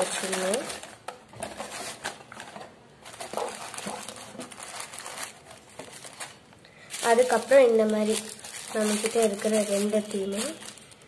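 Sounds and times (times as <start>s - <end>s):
plastic packets rustling: 0.0s - 11.0s.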